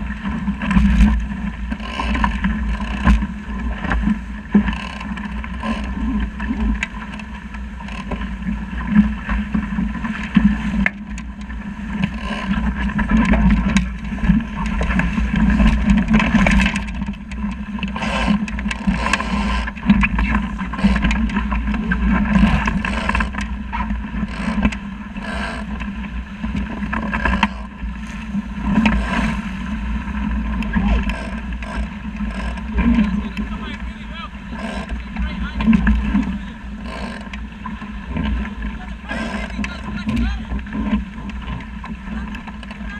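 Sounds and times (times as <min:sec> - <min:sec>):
water splashing against boat hull: 0:00.0 - 0:42.9
wind buffeting microphone: 0:00.0 - 0:42.9.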